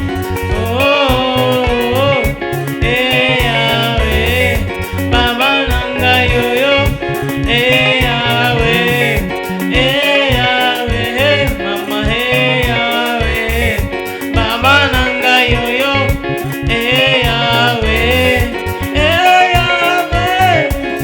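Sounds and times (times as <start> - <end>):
guitar: 0.0 - 21.0
steady beat: 0.0 - 21.0
voices singing gospel: 0.0 - 21.0.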